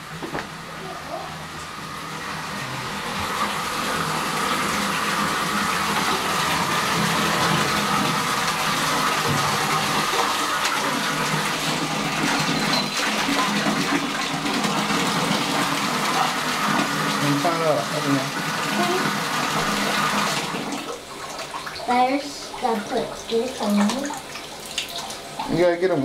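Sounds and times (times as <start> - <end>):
water pouring into bathtub: 0.1 - 26.0.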